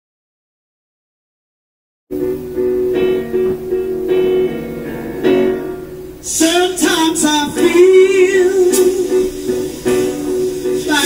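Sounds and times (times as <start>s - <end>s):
acoustic guitar chords: 2.1s - 11.0s.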